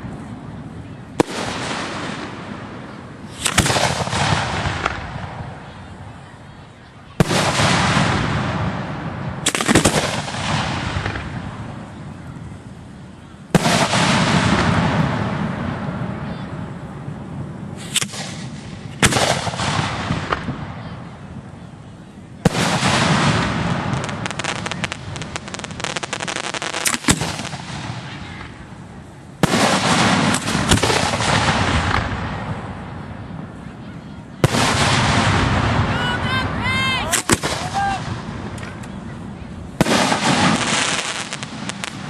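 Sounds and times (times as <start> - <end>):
firework bangs and crackling: 0.0 - 42.0.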